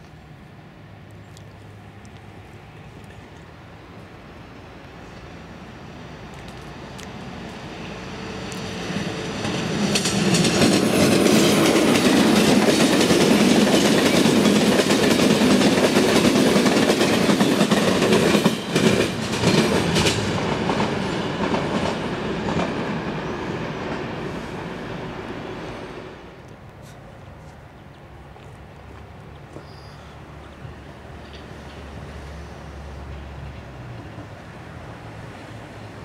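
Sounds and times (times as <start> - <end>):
train wheels rumbling on rails: 5.1 - 28.2, 29.3 - 36.0.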